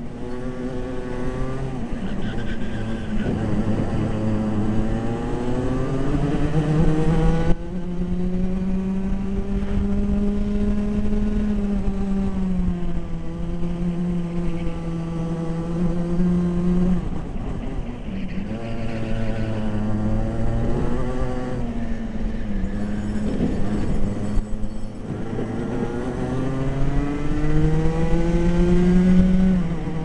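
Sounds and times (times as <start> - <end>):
kart engine revving: 0.0 - 30.0.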